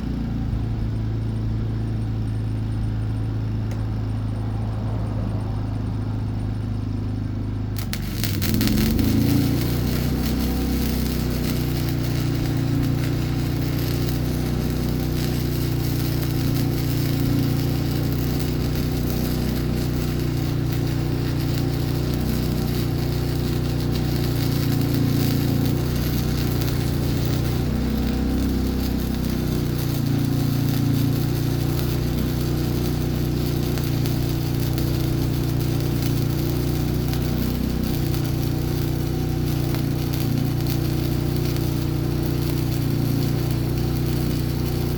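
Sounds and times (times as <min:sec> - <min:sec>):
welder arc crackling and humming: 0:00.0 - 0:04.4, 0:07.0 - 0:44.9.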